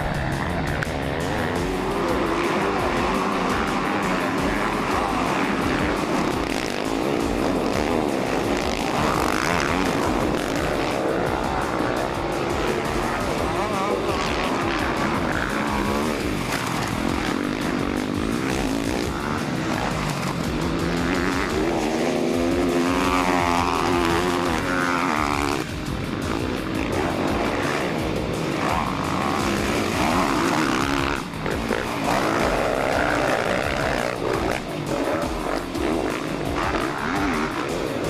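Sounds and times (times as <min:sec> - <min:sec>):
background music: 0:00.0 - 0:38.0
motorcycle engines revving: 0:00.0 - 0:38.0.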